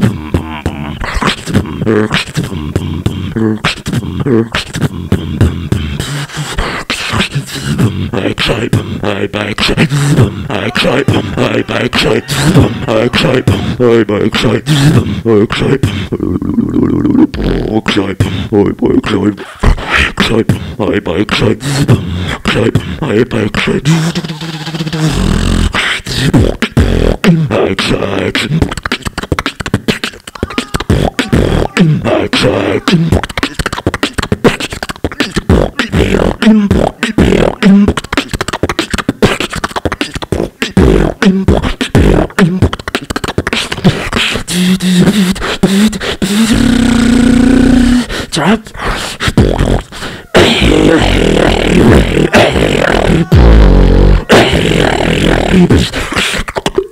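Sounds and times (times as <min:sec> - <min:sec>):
beatboxing through speakers: 0:00.0 - 0:56.9.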